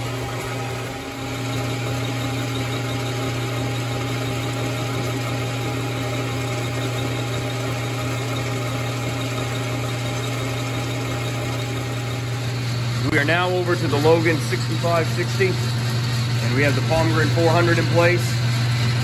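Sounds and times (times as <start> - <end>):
metal lathe milling hum: 0.0 - 19.0.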